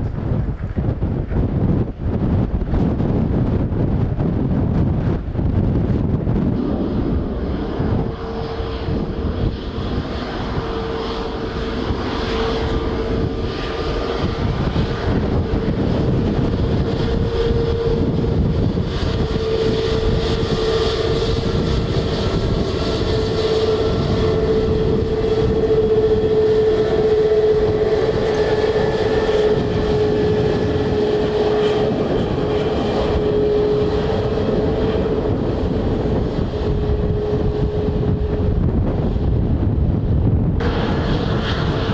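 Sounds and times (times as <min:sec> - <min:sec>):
jet engines passing: 0:00.0 - 0:41.9
wind buffeting microphone: 0:00.0 - 0:41.9.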